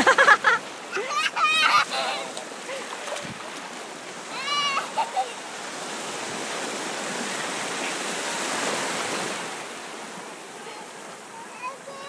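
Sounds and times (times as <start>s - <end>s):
small waves washing in: 0.0s - 12.0s.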